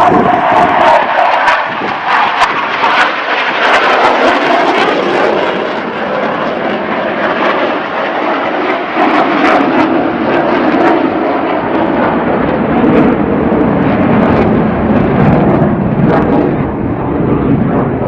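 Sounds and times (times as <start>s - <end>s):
airplane engine roar: 0.0s - 18.0s.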